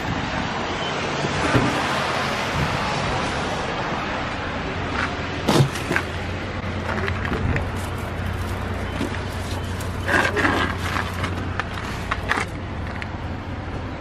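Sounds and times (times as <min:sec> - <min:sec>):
traffic noise with low hum: 0:00.0 - 0:14.0.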